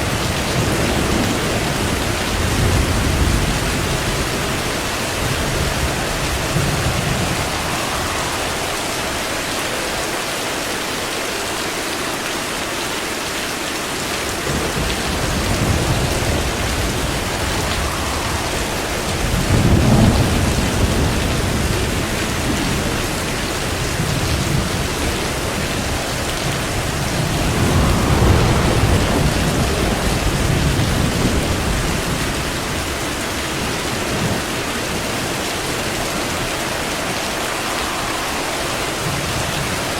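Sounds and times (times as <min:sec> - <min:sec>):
rolling thunder: 0:00.0 - 0:10.4, 0:14.3 - 0:39.9
heavy rain: 0:00.0 - 0:39.9.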